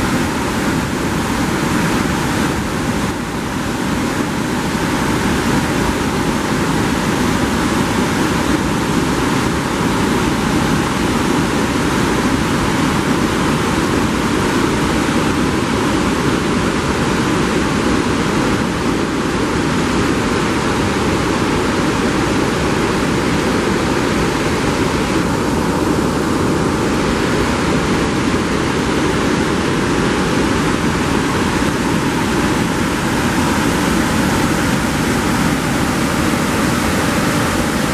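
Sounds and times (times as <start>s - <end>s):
water rushing over rocks: 0.0s - 37.9s.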